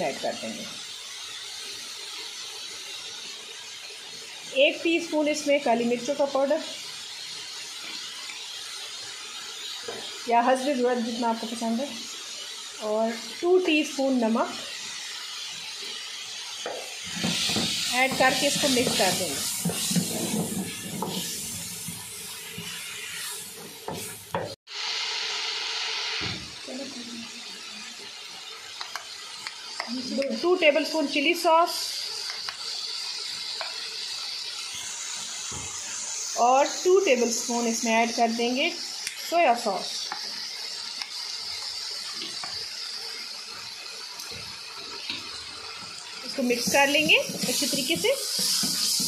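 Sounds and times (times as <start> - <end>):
food sizzling in a wok: 0.0 - 49.0
spatula stirring in a wok: 0.1 - 24.5, 27.6 - 49.0.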